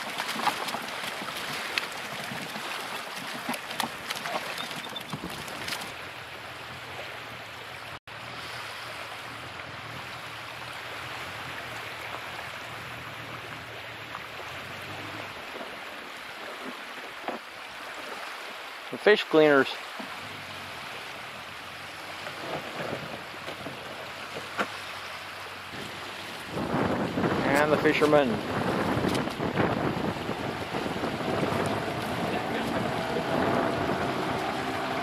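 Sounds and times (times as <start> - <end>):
water splashing: 0.0 - 35.0.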